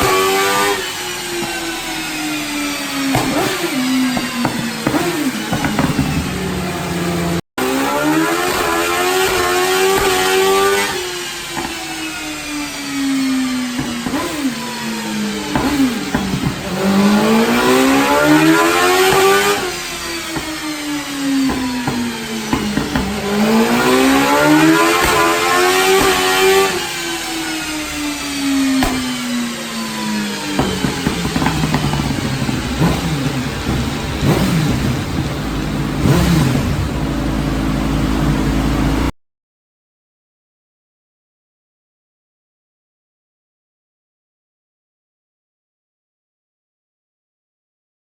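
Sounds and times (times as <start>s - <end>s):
motorcycle engine revving: 0.0s - 39.1s.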